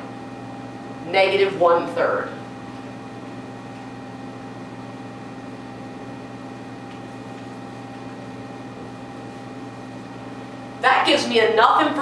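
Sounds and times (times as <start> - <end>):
electrical fan hum: 0.0 - 12.0.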